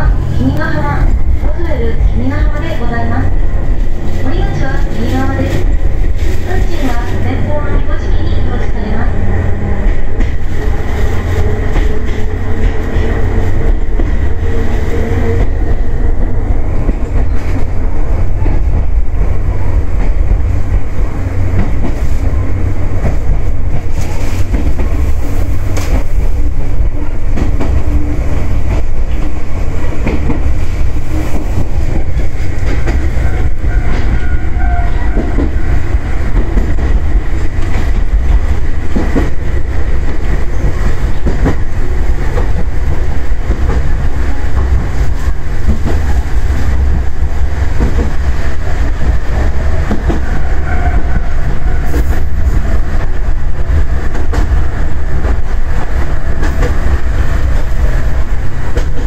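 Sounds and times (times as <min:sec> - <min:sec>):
railcar wheels rumbling on rail: 0:00.0 - 0:59.0
track clatter: 0:00.0 - 0:59.0.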